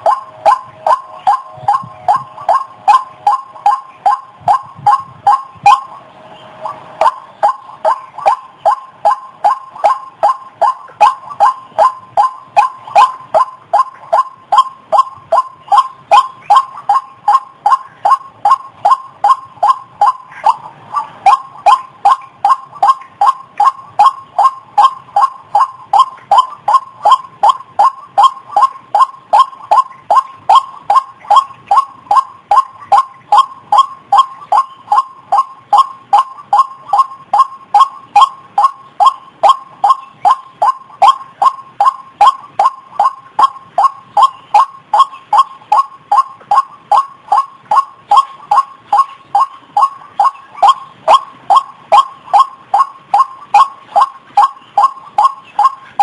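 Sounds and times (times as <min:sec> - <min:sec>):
bird calling repeated notes: 0:00.0 - 0:56.0.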